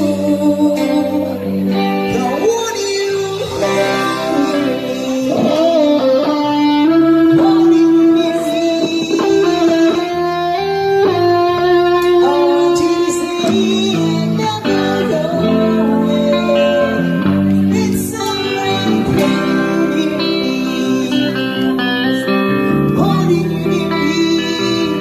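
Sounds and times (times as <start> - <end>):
electric guitar melody: 0.0 - 25.0
live rock band playing: 0.0 - 25.0.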